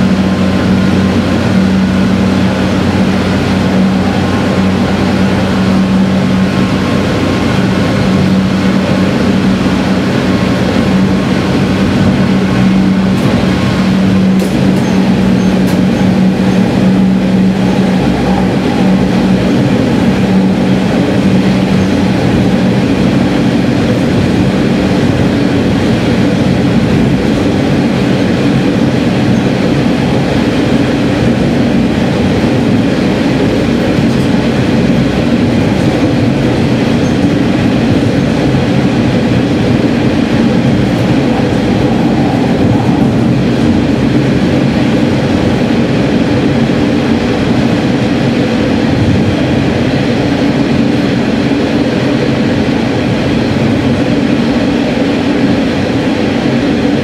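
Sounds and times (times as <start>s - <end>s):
hum: 0.0s - 57.0s
train engine and wheels drone: 0.0s - 57.0s.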